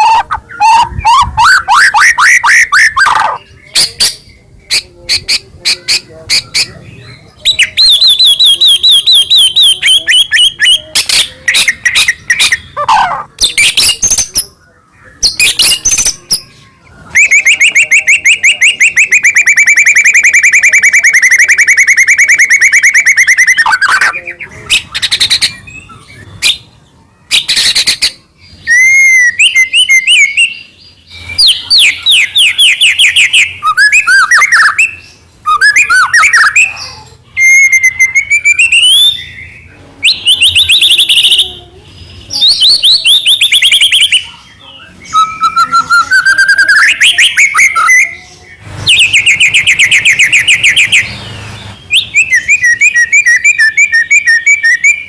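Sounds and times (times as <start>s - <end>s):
bird singing with trills and whistles: 0.0s - 55.0s.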